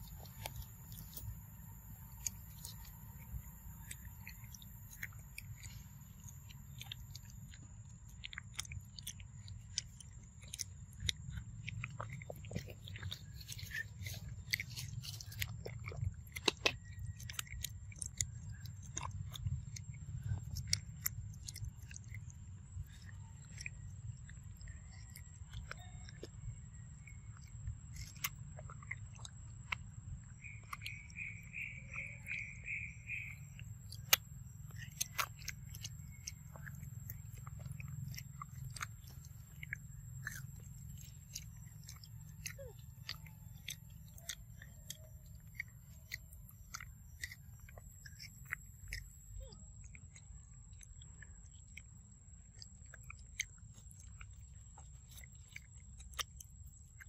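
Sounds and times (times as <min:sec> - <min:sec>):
monkey chewing fruit: 0:00.0 - 0:57.0
quick chirps: 0:00.0 - 0:57.0.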